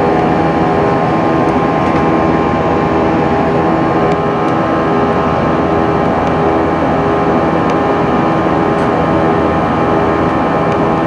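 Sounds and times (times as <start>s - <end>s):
airliner cabin roar: 0.0s - 11.0s
humming engine tones: 0.0s - 11.0s.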